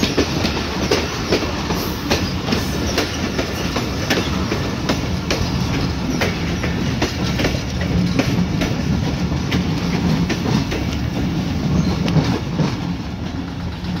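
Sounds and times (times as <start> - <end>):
train carriages rumbling past: 0.0 - 14.0
wheels clacking over rail joints: 0.0 - 14.0.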